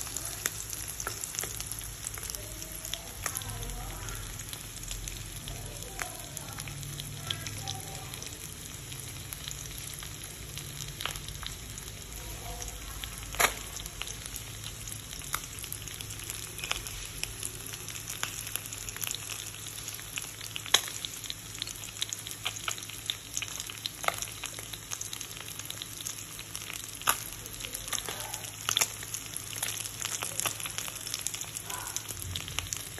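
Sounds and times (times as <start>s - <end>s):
fish sizzling in oil: 0.0s - 32.9s.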